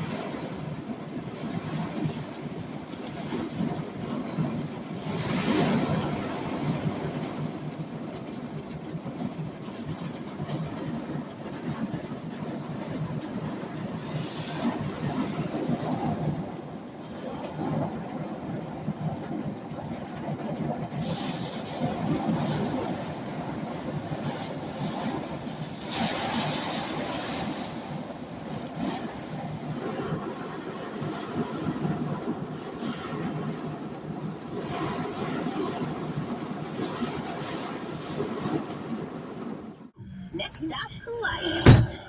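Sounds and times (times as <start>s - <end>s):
wind rumbling against van: 0.0s - 42.0s.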